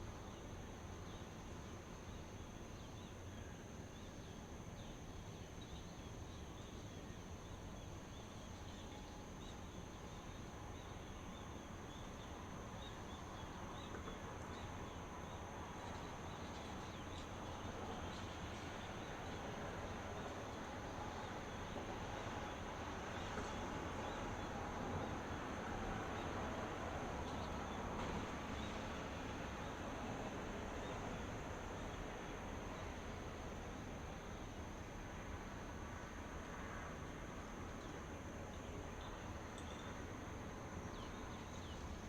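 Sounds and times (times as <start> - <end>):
high insect drone: 0.0 - 42.0
low rumbling background noise: 0.0 - 42.0.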